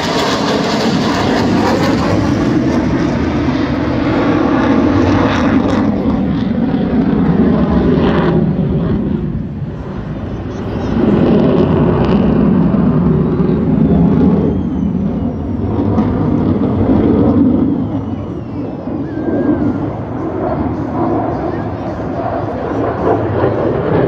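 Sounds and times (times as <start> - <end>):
fighter jet engine roar: 0.0 - 24.0.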